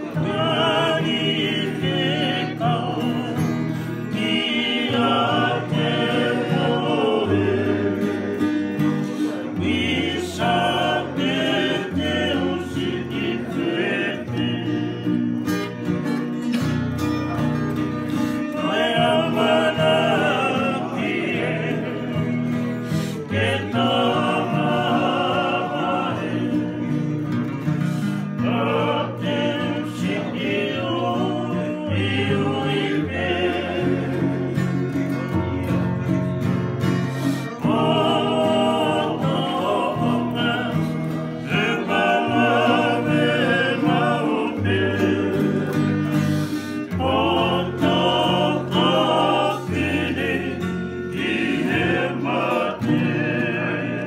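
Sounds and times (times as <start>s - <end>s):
men singing: 0.0s - 15.7s, 18.0s - 54.0s
strummed acoustic guitars: 0.0s - 54.0s
ukulele: 0.0s - 54.0s.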